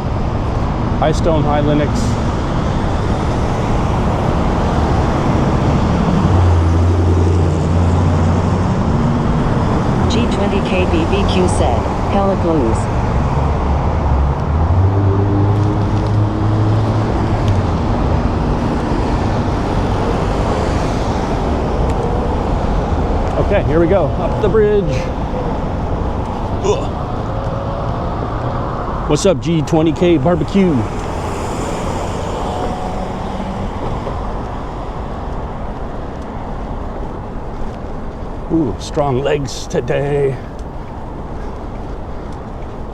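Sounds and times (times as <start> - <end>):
passing vehicle engine humming: 0.0 - 42.9
road traffic: 0.0 - 42.9
wind rumble on microphone: 0.0 - 42.9.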